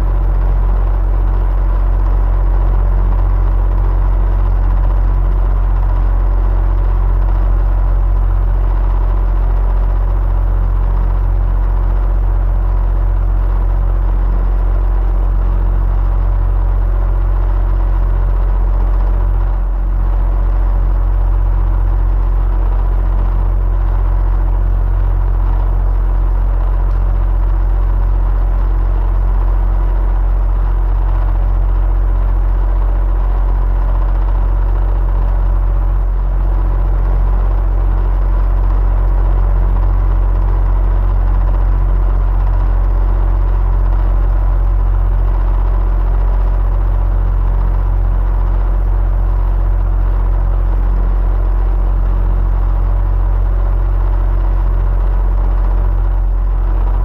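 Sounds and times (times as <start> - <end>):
electric fan humming: 0.0 - 47.7.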